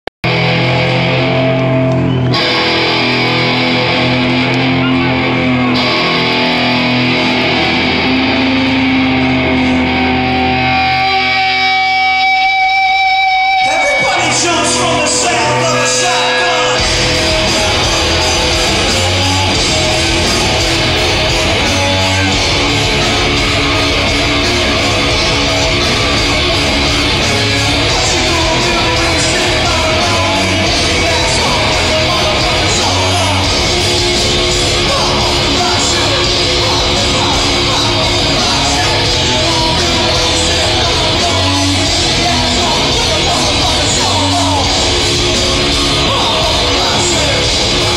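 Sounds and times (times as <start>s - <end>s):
live rock band playing: 0.2s - 47.9s.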